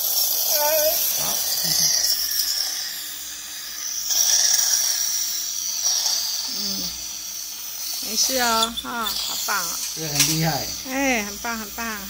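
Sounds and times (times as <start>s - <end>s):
dental scaler and suction whine: 0.0s - 12.0s.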